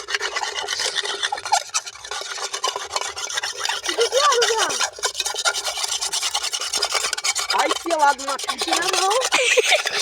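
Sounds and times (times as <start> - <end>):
scraping a cooking pot: 0.0 - 10.0.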